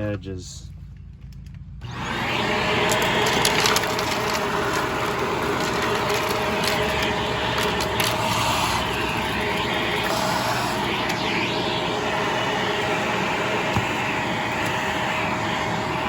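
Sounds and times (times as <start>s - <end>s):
vacuum cleaner whining: 1.8s - 16.0s.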